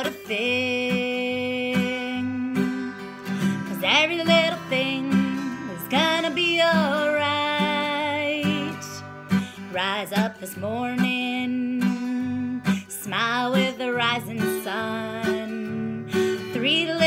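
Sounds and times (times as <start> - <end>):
acoustic guitar strumming: 0.0 - 17.0
woman singing: 0.0 - 17.0.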